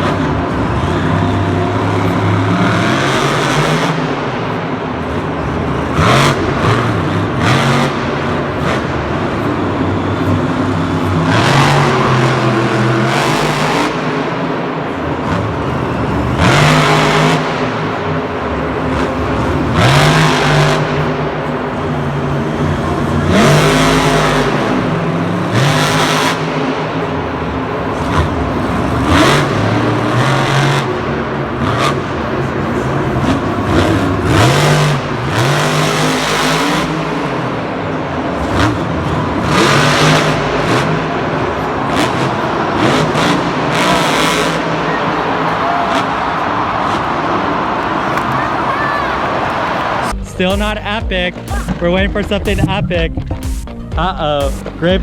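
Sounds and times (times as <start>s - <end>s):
vehicle motor revving: 0.0s - 55.0s.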